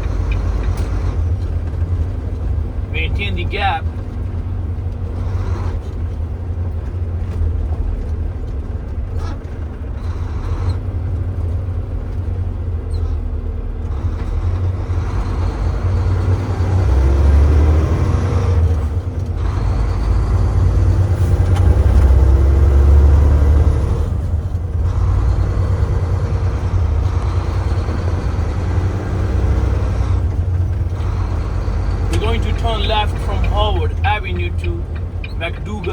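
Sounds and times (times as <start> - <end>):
truck diesel engine drone: 0.0 - 35.9.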